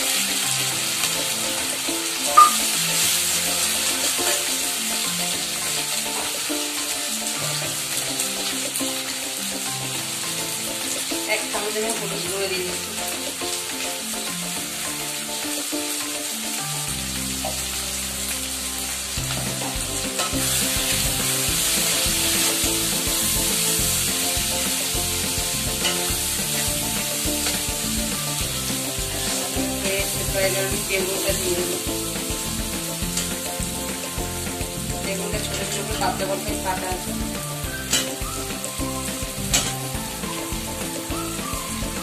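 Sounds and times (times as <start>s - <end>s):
soft background music: 0.0s - 42.0s
vegetables sizzling in oil: 0.0s - 42.0s.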